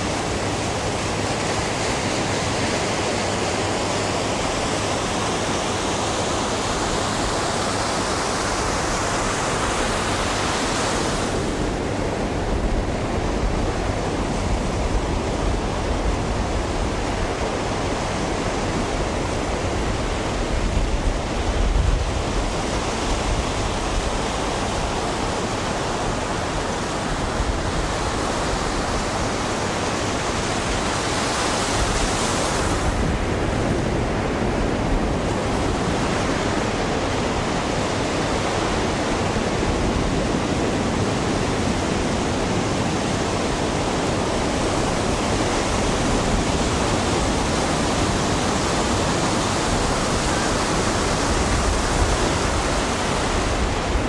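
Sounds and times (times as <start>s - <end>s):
ocean surf breaking on shore: 0.0s - 54.0s.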